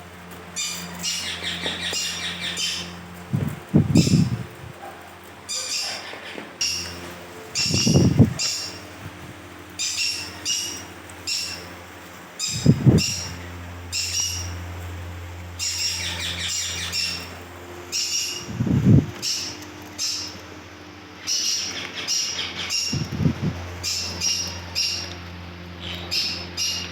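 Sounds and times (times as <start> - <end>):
parakeets calling: 0.3 - 26.9.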